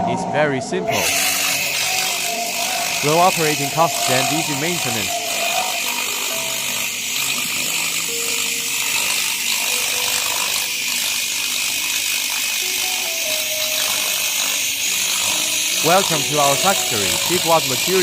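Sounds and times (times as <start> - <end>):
laser cleaner hissing and crackling: 1.0 - 18.0.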